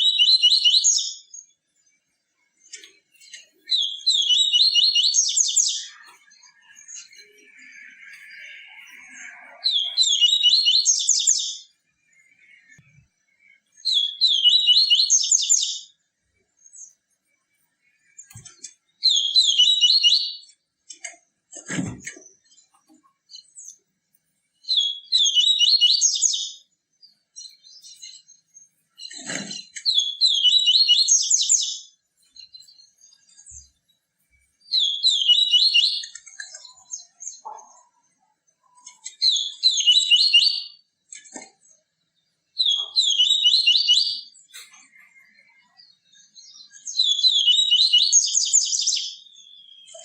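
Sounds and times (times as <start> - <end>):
bird singing twittering phrases: 0.0 - 50.0.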